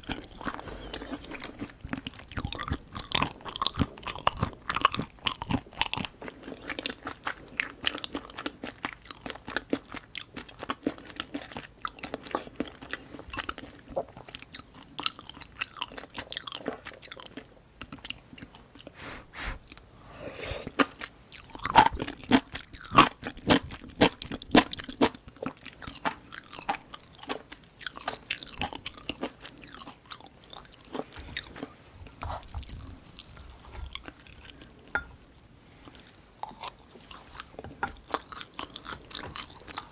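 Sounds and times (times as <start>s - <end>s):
person chewing and biting food: 0.0s - 19.8s, 20.5s - 35.1s, 35.9s - 39.9s.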